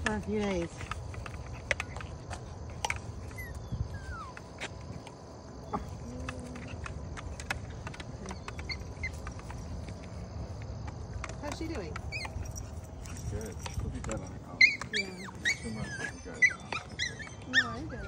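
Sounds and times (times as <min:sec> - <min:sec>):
puppies whining: 0:01.1 - 0:10.0, 0:11.6 - 0:18.0.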